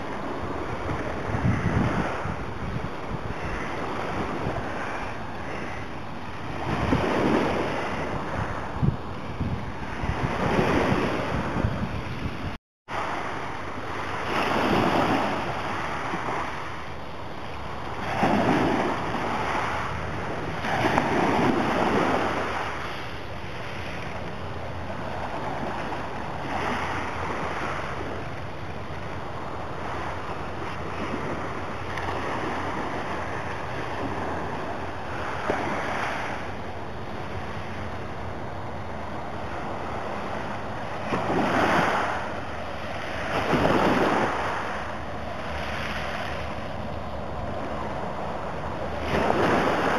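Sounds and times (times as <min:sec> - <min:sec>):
waves breaking on a pebble beach: 0:00.0 - 0:08.9, 0:09.8 - 0:11.9, 0:12.9 - 0:38.1, 0:39.0 - 0:49.9
wind buffeting microphone: 0:00.0 - 0:49.9.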